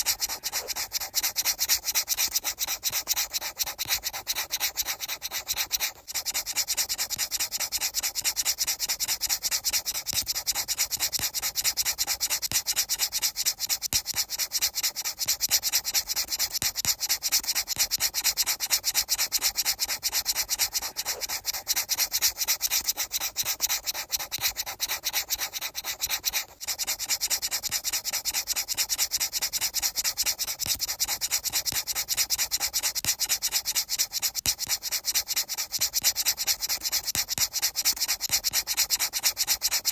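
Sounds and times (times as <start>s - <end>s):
fast rubbing strokes: 0.0s - 39.9s.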